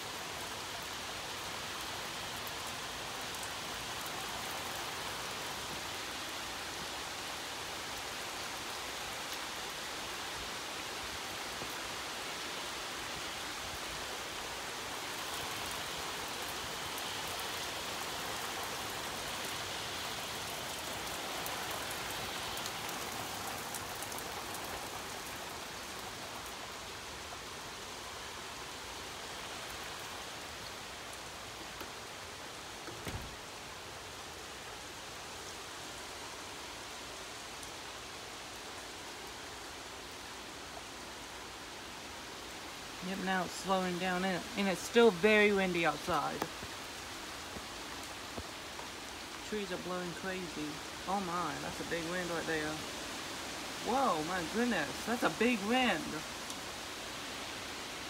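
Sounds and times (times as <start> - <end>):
heavy rain on wooden deck: 0.0 - 58.0.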